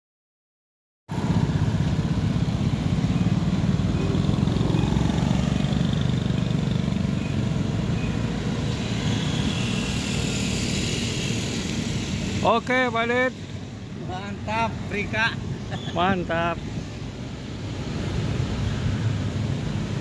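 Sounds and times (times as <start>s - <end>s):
road noise: 1.1s - 20.0s
vehicle engine rumble: 1.1s - 20.0s.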